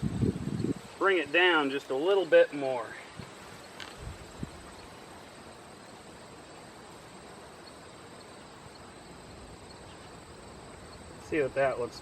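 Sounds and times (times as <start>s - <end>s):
insect trill: 0.0s - 12.0s
outdoor background hiss: 0.0s - 12.0s.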